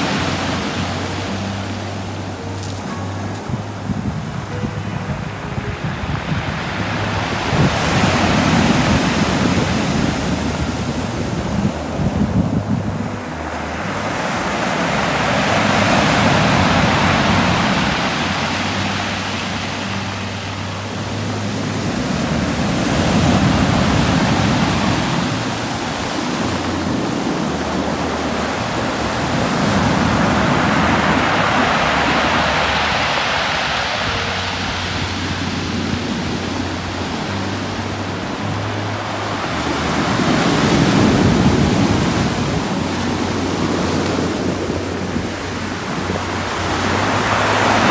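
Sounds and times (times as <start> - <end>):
waves breaking on a pebble beach: 0.0 - 47.9.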